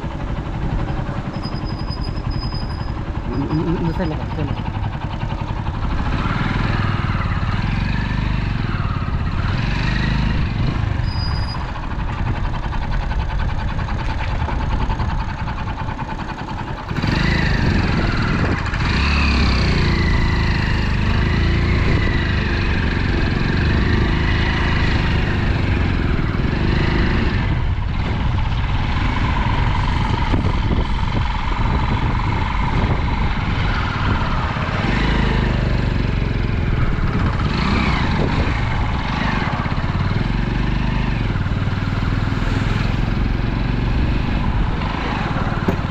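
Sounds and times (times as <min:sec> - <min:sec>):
vehicle and motorcycle engines: 0:00.0 - 0:45.9.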